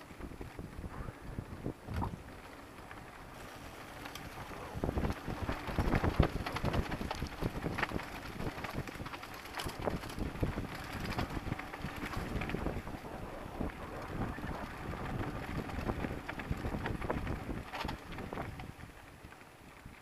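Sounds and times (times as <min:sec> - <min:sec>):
bike clattering over stones: 0:00.0 - 0:20.0
wind buffeting microphone: 0:00.0 - 0:20.0.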